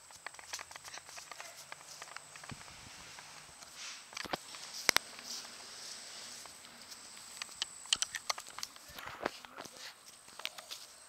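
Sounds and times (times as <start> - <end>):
sharp clicks: 0.0 - 5.3, 6.4 - 10.9
footsteps on grass: 0.0 - 11.0.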